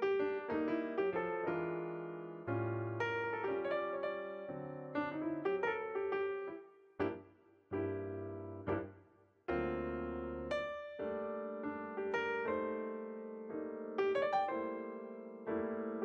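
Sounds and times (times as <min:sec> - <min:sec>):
piano notes and chords: 0:00.0 - 0:16.0.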